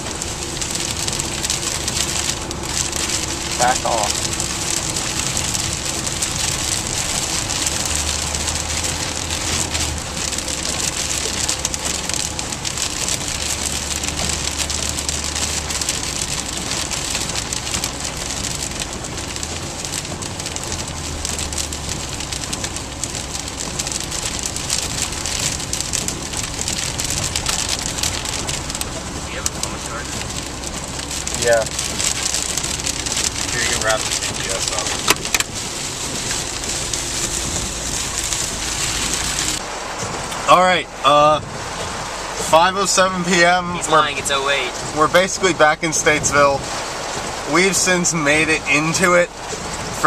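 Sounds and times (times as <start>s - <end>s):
car hum: 0.0s - 50.0s
heavy rain on car roof: 0.0s - 50.0s.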